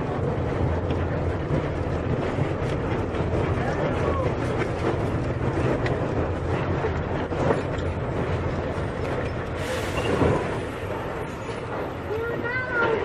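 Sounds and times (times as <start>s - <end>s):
bus engine rumble: 0.0s - 13.0s
rattling road noise: 0.0s - 13.0s.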